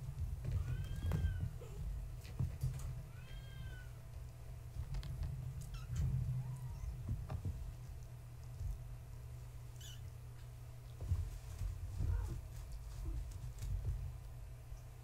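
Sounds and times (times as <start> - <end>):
kittens tapping and scuffling: 0.0 - 15.0
steady low hum: 0.0 - 15.0.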